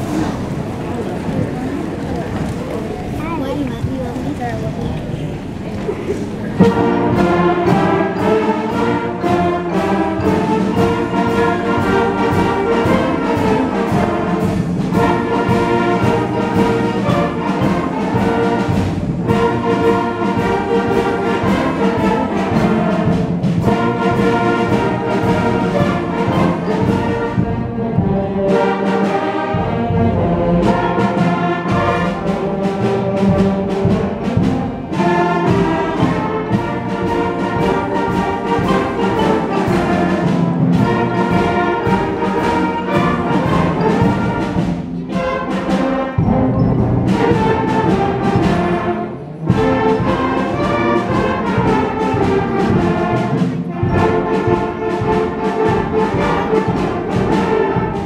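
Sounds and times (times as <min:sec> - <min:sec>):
concert band playing: 0:00.0 - 0:58.0
percussion beat: 0:05.8 - 0:58.0.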